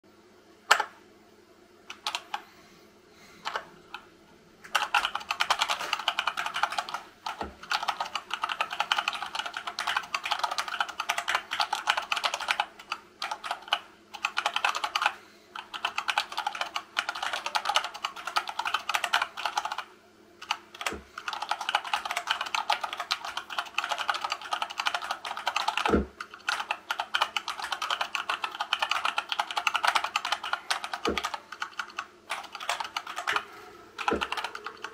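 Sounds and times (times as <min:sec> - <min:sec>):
keyboard typing clacks: 0:04.7 - 0:33.4, 0:34.0 - 0:34.9.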